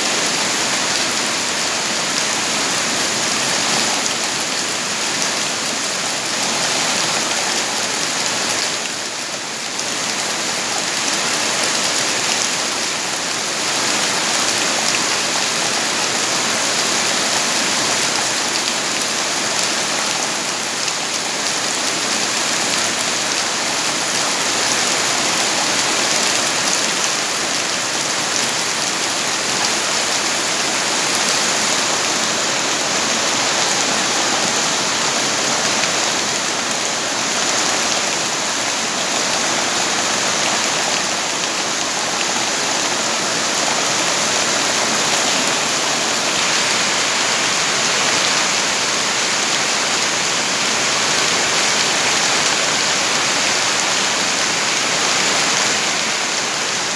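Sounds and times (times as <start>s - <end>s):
heavy rain: 0.0s - 56.9s.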